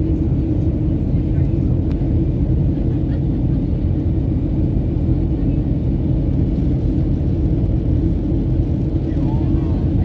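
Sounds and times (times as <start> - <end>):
jet airliner cabin rumble: 0.0 - 10.0.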